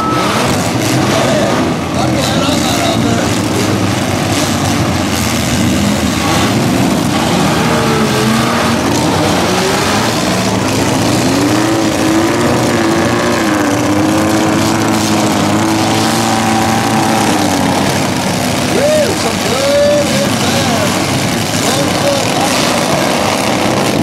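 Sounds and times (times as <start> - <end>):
truck engines revving: 0.0 - 24.0
trucks ramming: 0.0 - 24.0.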